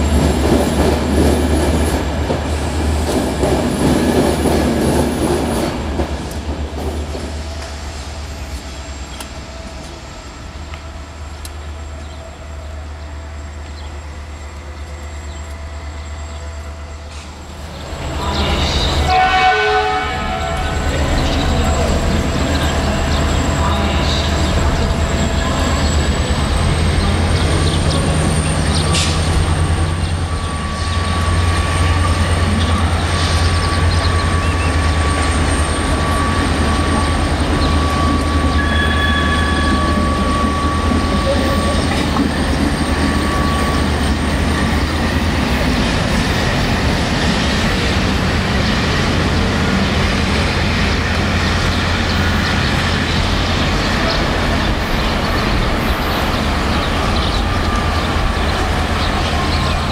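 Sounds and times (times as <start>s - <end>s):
diesel locomotive drone: 0.0s - 59.9s
passenger train approaching: 0.0s - 59.9s.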